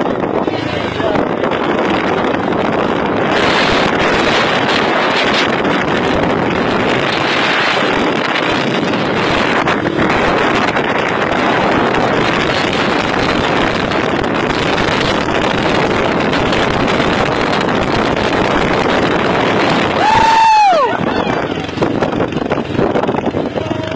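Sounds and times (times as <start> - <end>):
motorbike engine: 0.0 - 23.9
road noise: 0.0 - 23.9
wind rushing over microphone: 0.0 - 23.9.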